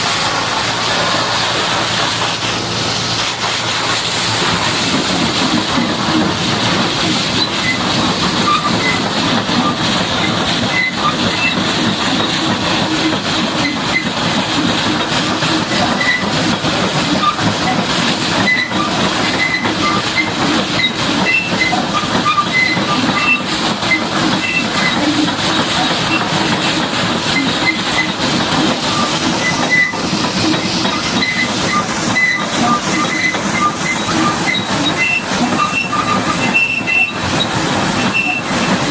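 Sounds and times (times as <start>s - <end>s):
high-pressure water spray hissing: 0.0s - 38.9s.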